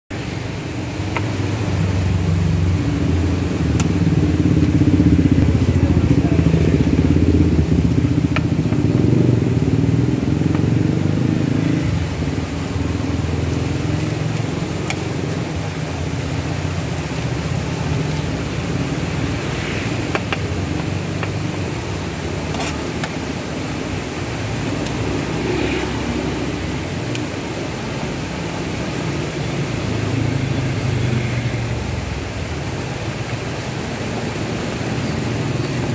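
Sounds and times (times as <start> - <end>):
vehicle engine rumbling: 0.1 - 35.9.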